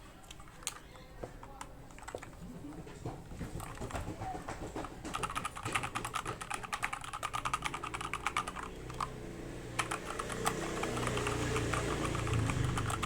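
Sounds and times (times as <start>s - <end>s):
mechanical keyboard typing: 0.2s - 2.5s, 3.6s - 4.3s, 4.9s - 13.0s.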